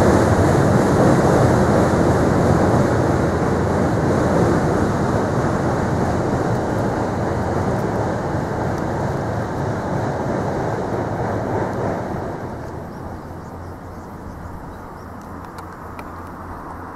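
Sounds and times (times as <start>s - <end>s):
train rumbling over bridge: 0.0s - 16.9s.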